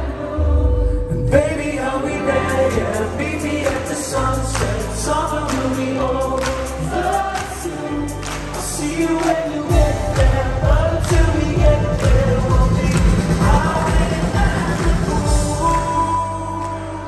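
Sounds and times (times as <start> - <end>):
live pop band playing: 0.0 - 17.0
person singing: 0.0 - 17.0
drums steady beat: 2.5 - 16.4.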